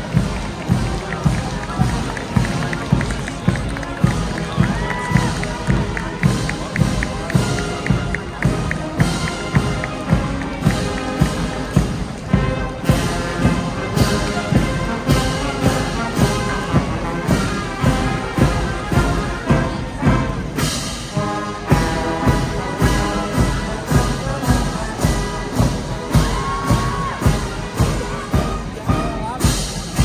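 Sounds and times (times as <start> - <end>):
brass band playing a march: 0.0 - 30.0.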